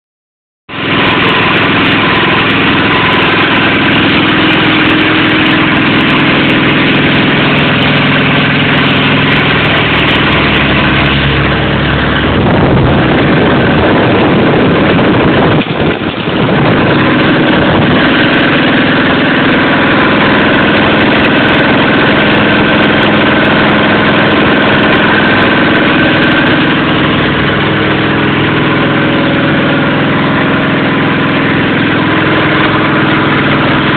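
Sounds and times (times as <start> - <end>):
small engine running: 0.7 - 33.9.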